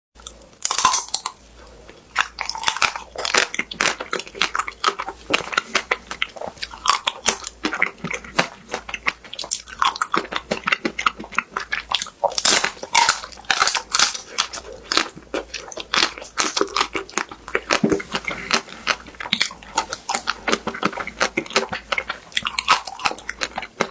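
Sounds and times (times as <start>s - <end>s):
crunchy chewing of ice cream bar: 0.2s - 23.9s.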